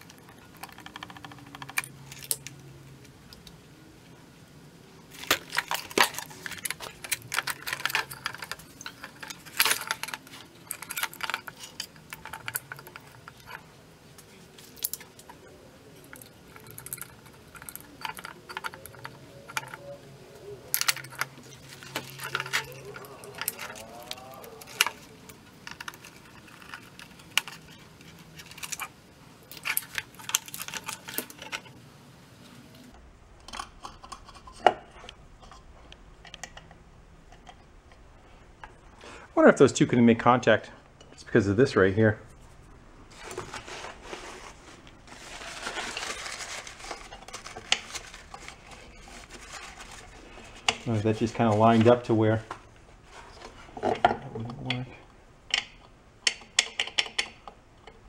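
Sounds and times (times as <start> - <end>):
plastic parts clicking and clattering: 0.0 - 2.6, 5.1 - 31.8, 32.8 - 38.9, 43.1 - 58.0.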